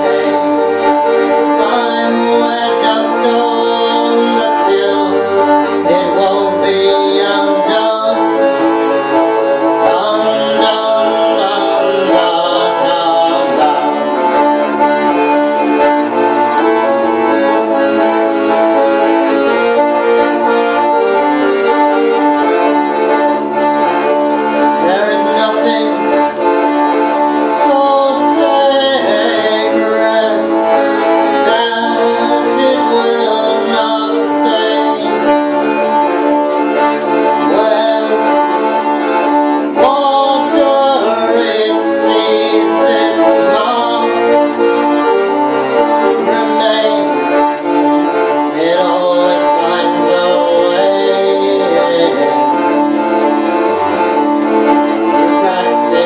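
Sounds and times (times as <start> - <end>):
accordion chords: 0.0 - 56.0
bowed cello: 0.0 - 56.0.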